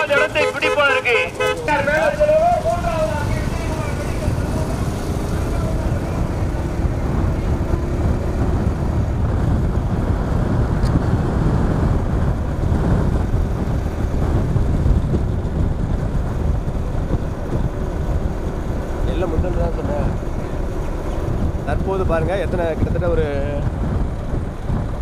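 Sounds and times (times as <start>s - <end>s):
vehicle rumbling on road: 0.0s - 25.0s
wind buffeting microphone: 0.0s - 25.0s.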